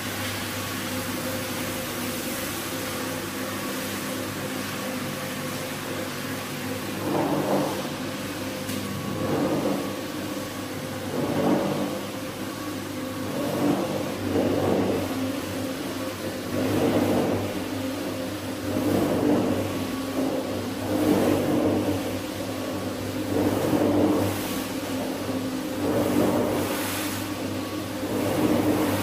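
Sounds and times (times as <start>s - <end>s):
rug cleaning machine humming: 0.0s - 29.0s.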